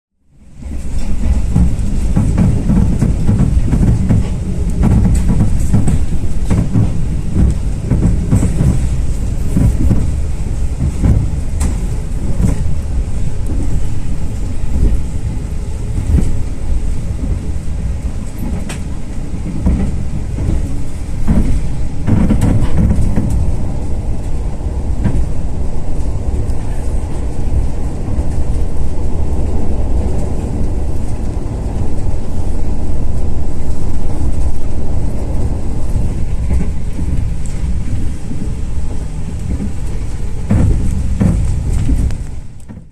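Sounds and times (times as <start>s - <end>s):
train low rumble: 0.1s - 42.9s
wheels clacking on rails: 0.3s - 42.9s.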